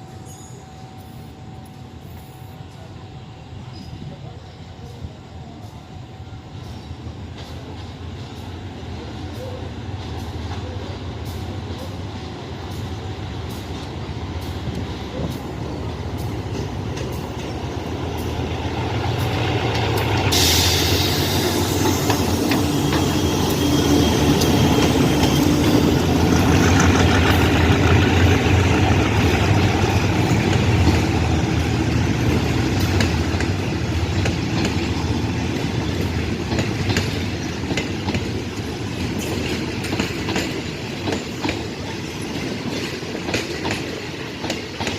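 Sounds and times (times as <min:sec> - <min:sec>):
train engine hum: 0:00.0 - 0:44.9
wheels rushing on rails: 0:03.7 - 0:44.9.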